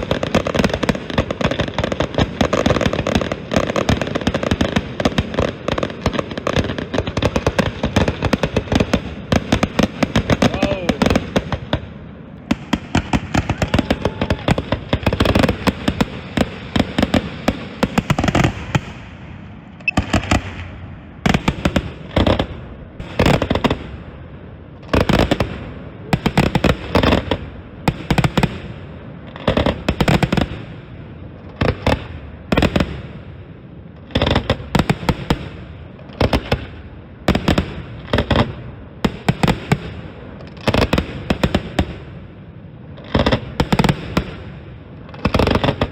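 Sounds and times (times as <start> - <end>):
fireworks bursting: 0.0 - 45.9
rumbling firework echo: 0.0 - 45.9.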